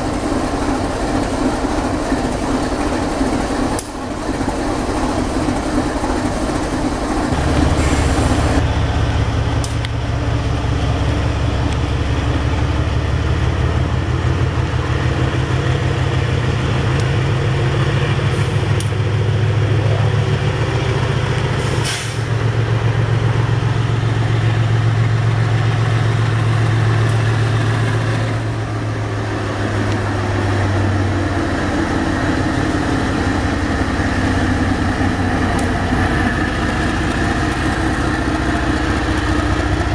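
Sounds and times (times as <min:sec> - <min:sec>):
locomotive engines droning: 0:00.0 - 0:39.9.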